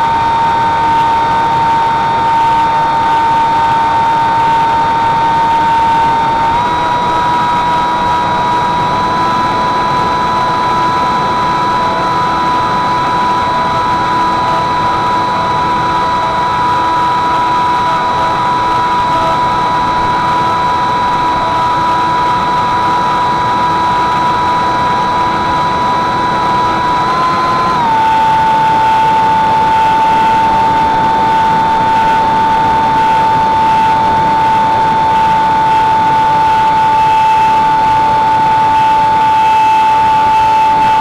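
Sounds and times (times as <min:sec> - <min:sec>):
electric motor and propeller whine: 0:00.0 - 0:41.0.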